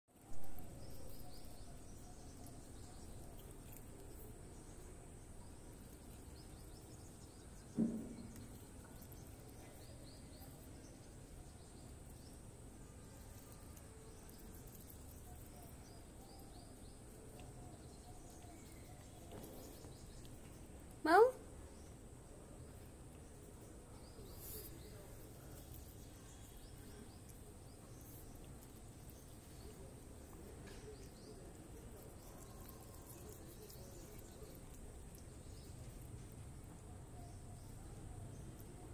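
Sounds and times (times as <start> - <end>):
cat chewing grass: 0.1 - 38.9
faint high chirps: 0.1 - 38.9.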